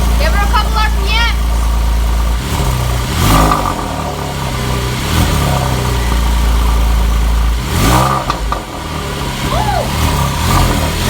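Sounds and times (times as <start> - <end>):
car exhaust idling: 0.0 - 11.0
engine throttle blips: 0.0 - 11.0.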